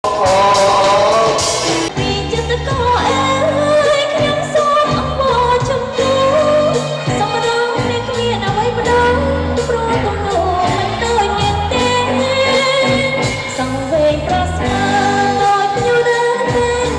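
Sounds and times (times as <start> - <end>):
bass and drums: 0.0 - 16.9.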